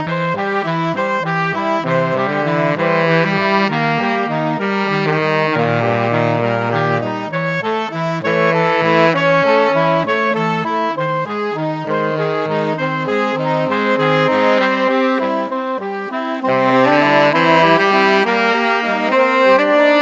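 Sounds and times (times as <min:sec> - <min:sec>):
sustained bass notes: 0:00.0 - 0:19.8
saxophone melody: 0:00.0 - 0:20.0.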